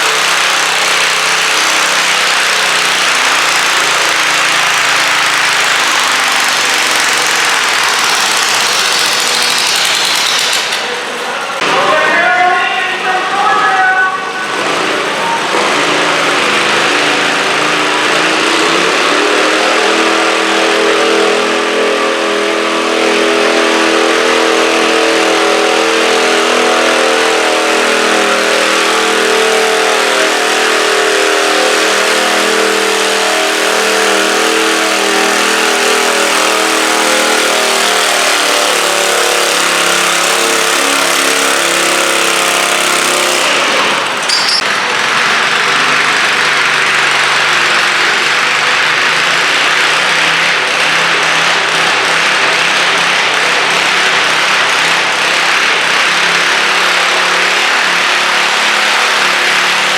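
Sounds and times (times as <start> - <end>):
tractor engine revving: 0.0 - 59.9.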